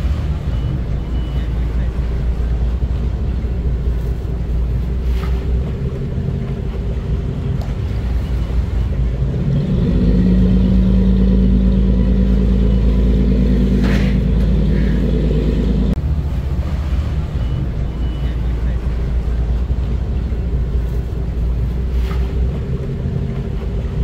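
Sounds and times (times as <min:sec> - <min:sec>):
city traffic rumble: 0:00.0 - 0:24.0
vehicle engine droning: 0:00.0 - 0:24.0.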